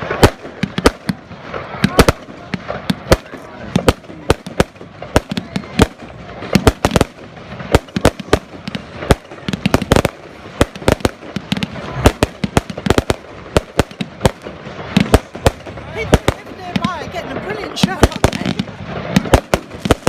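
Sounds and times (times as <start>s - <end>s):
fireworks bangs: 0.0s - 20.0s
fireworks crackle and rumble: 0.0s - 20.0s.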